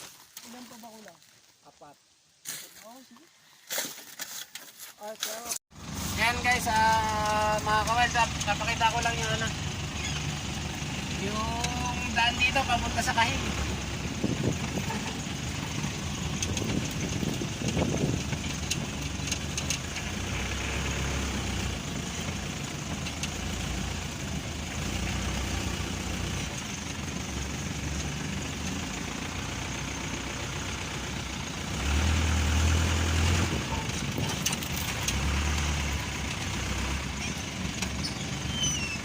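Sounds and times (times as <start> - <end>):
truck engine humming: 5.7 - 39.0.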